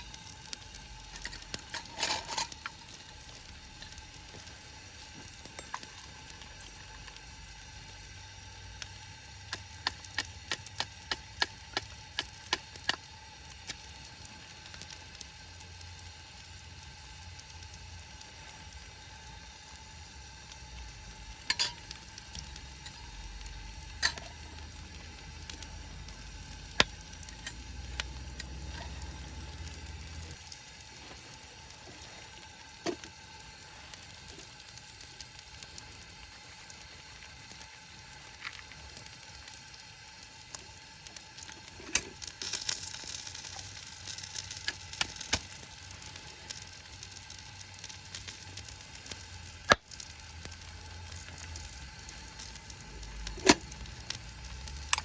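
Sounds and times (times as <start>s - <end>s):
food sizzling in pan: 0.0s - 55.0s.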